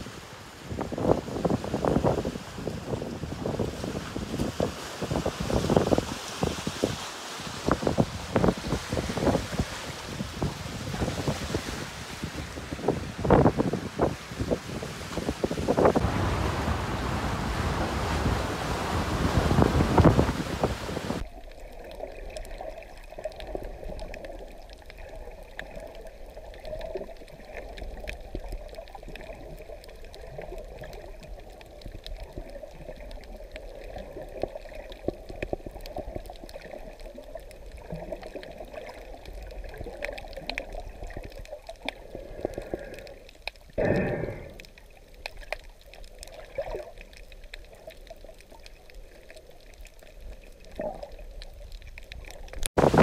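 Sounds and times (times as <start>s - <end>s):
muffled underwater water movement: 0.0s - 53.0s
rush of water: 0.0s - 53.0s.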